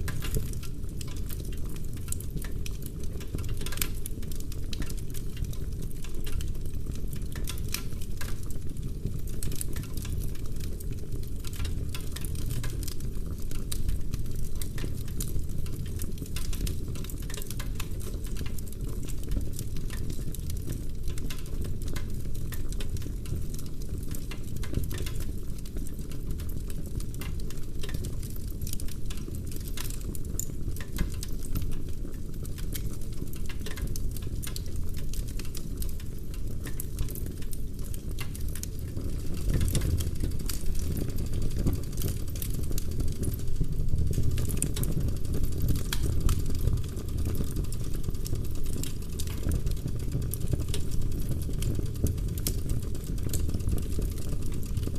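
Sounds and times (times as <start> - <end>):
logs crackling and popping: 0.0 - 54.9
low rumble of flames: 0.0 - 54.9.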